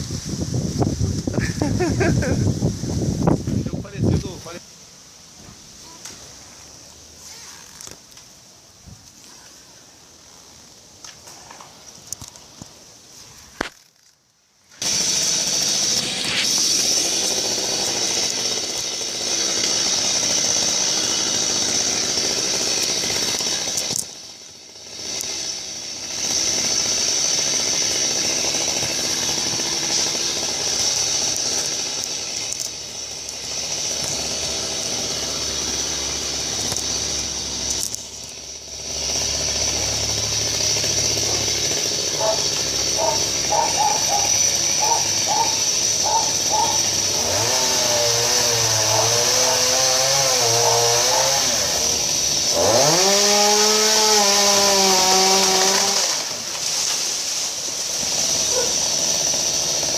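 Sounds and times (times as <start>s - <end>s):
chainsaw cutting wood: 0.0s - 4.6s, 9.0s - 59.9s.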